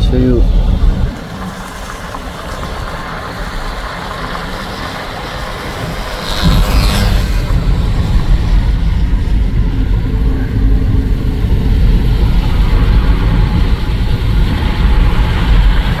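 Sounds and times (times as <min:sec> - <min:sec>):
car interior road and wind noise: 0:00.0 - 0:16.0.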